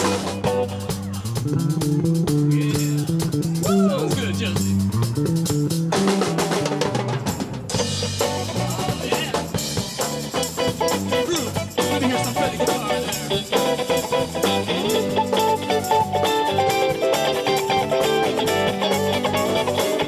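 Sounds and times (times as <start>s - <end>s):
drum kit and percussion: 0.0s - 20.0s
electric bass line: 0.0s - 20.0s
electric guitar: 0.0s - 20.0s.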